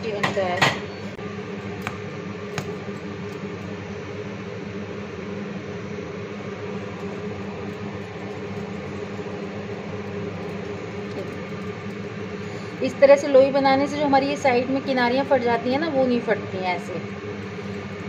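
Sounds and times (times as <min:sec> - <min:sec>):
fan motor humming: 0:00.0 - 0:18.0.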